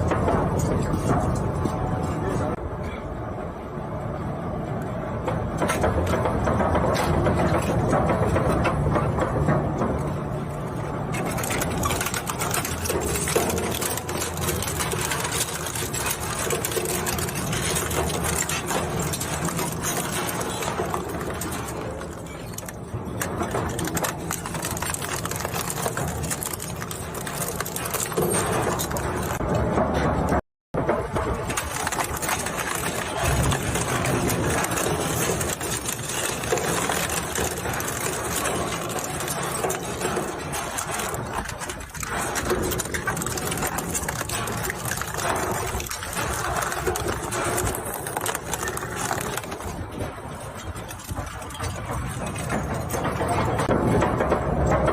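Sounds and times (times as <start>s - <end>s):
crackling clatter of shredding plastic: 0.0s - 2.6s, 4.8s - 54.9s.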